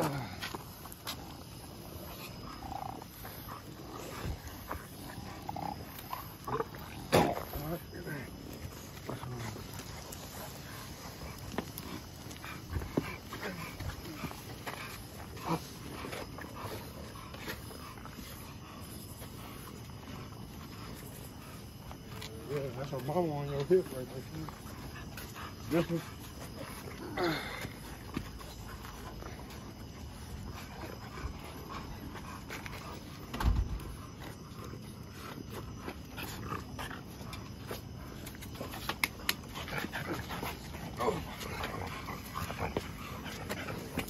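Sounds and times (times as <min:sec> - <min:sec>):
dog paws clicking on concrete: 0:00.0 - 0:44.0.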